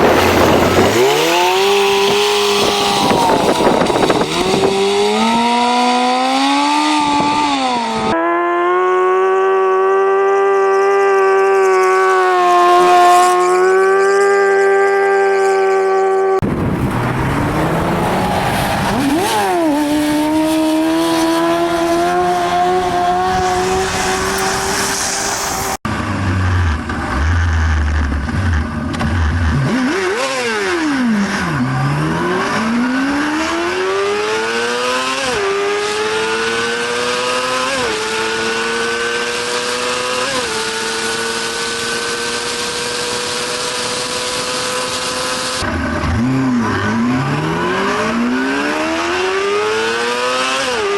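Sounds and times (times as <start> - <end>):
engine revving: 0.0 - 50.9
motorcycle engine accelerating: 0.0 - 50.9.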